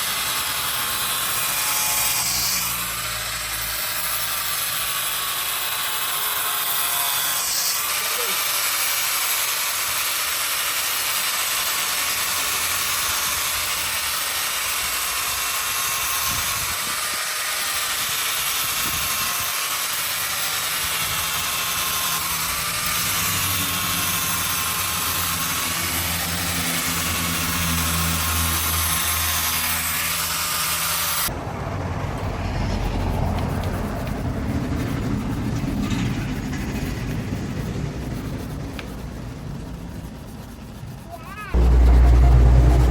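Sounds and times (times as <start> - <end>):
low rough machine noise: 0.0 - 42.9
power tool whining: 0.0 - 42.9.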